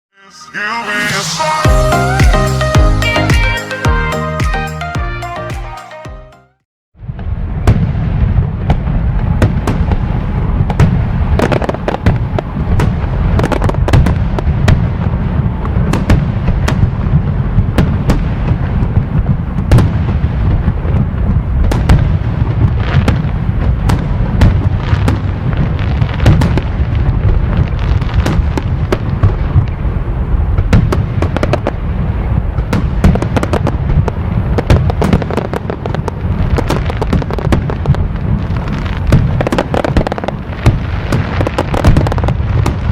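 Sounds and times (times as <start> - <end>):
fireworks crackles and bangs: 7.0 - 42.9.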